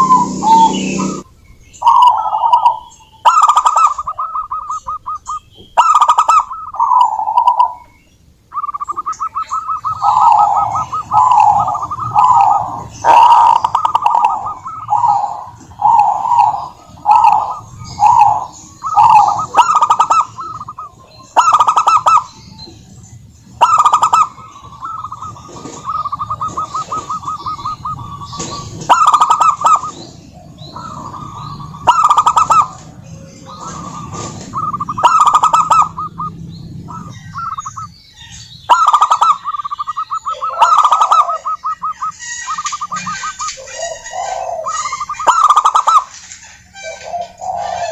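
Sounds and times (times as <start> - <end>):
dove rattling trills: 0.0 - 7.9, 8.5 - 47.9
doves cooing: 0.0 - 7.9, 8.5 - 46.2, 46.8 - 47.9.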